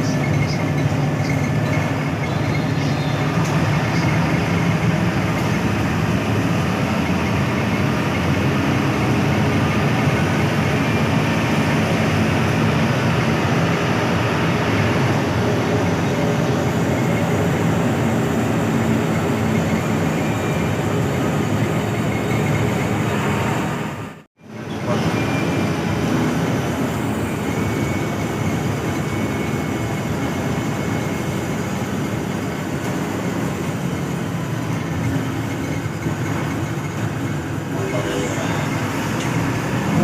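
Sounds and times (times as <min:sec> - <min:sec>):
bus engine running: 0:00.0 - 0:40.0
road noise: 0:00.0 - 0:40.0.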